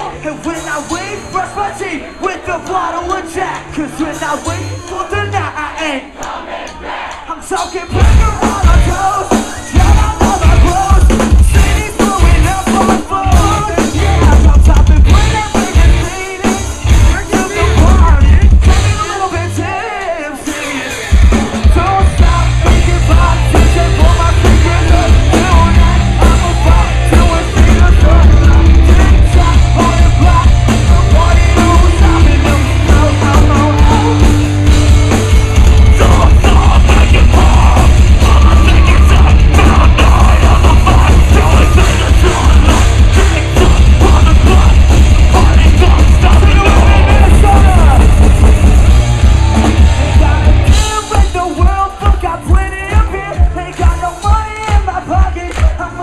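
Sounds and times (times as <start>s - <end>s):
live metal band playing: 0.0s - 5.8s, 7.4s - 56.0s
sung and shouted vocals: 0.0s - 34.8s, 35.6s - 48.7s, 49.3s - 56.0s
drums: 0.0s - 56.0s
electric guitars: 8.0s - 56.0s.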